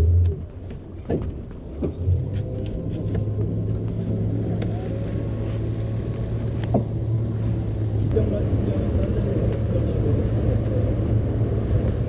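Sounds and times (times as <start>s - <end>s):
boat engine humming: 0.0s - 12.0s
wind: 0.0s - 12.0s.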